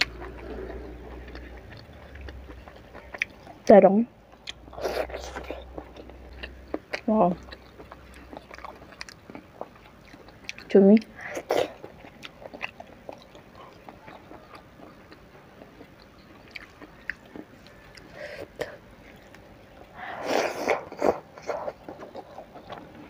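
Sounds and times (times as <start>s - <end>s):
person chewing food: 0.0s - 3.7s, 4.3s - 23.0s.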